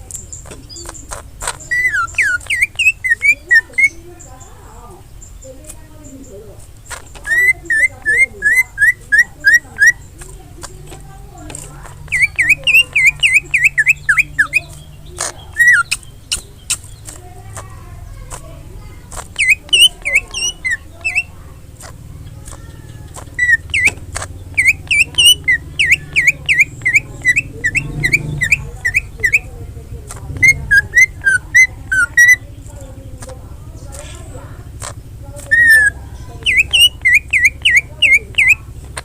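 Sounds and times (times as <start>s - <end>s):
sharp clicks: 0.0s - 4.5s, 5.1s - 39.0s
bird singing whistled notes: 0.0s - 39.0s.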